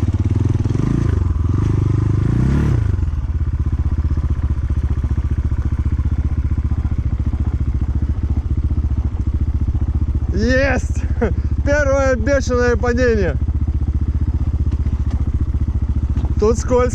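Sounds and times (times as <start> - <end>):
dirt bike engine revving and idling: 0.0 - 16.9.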